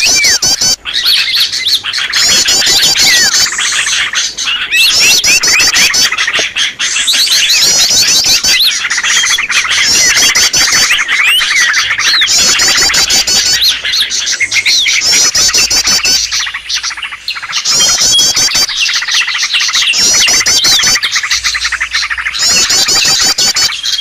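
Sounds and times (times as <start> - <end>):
rapid high bird trill: 0.0 - 24.0
songbirds chirping and whistling: 0.0 - 24.0.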